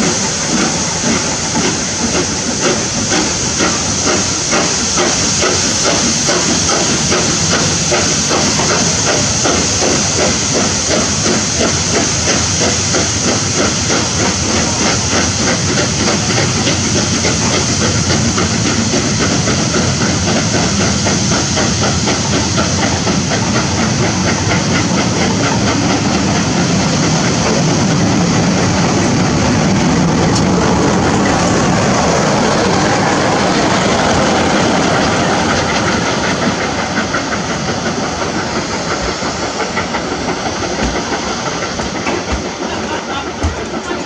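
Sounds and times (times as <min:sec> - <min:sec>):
steam hissing: 0:00.0 - 0:44.0
steam locomotive exhaust chuffs: 0:00.0 - 0:44.0
train coaches rumbling: 0:00.0 - 0:44.0.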